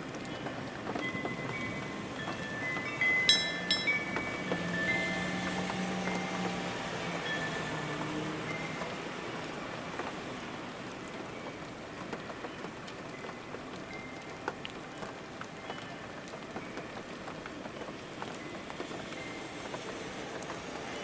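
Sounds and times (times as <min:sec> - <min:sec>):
raindrops tapping sharply: 0:00.0 - 0:21.0
steady rain falling: 0:00.0 - 0:21.0.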